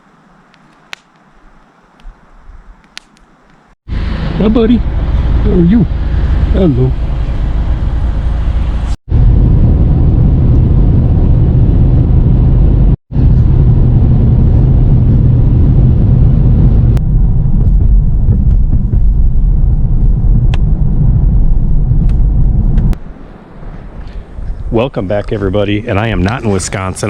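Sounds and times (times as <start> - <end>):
car driving rumble: 3.4 - 27.0.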